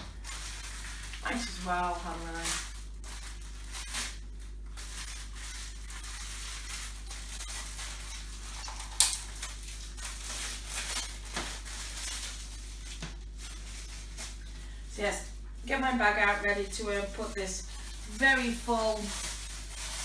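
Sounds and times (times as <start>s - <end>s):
bags rustling: 0.0s - 14.8s, 16.2s - 20.0s
steady low hum: 0.0s - 20.0s.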